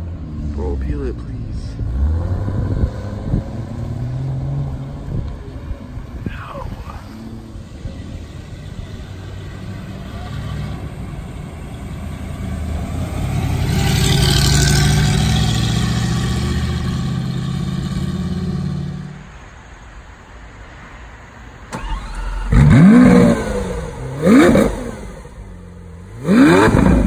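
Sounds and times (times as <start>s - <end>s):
car engine passing by: 0.0s - 19.4s, 20.7s - 27.0s.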